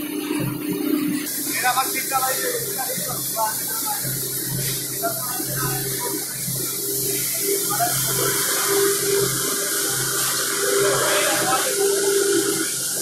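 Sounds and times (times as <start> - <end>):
low machine hum: 0.0 - 13.0
machine hiss: 0.0 - 13.0
mid-pitched machine drone: 0.0 - 13.0.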